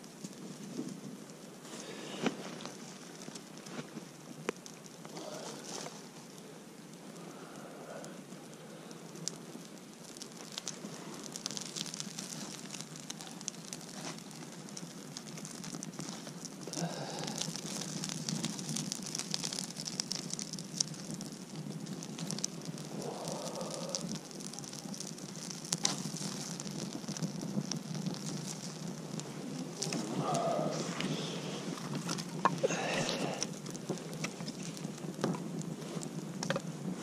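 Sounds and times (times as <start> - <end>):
campfire crackling and hissing: 0.0 - 37.0.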